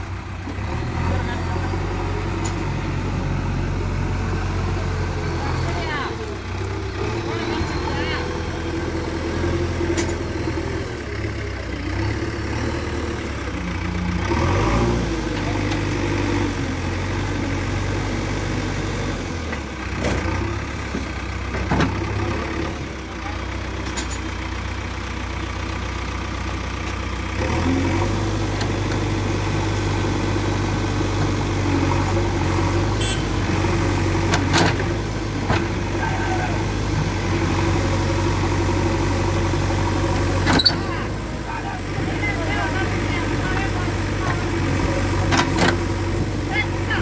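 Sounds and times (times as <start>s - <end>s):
heavy diesel engines running: 0.0s - 47.0s.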